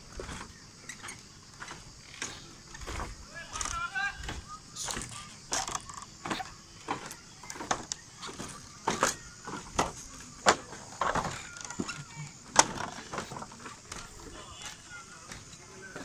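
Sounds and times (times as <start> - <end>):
footsteps on bamboo slats: 0.0 - 16.0.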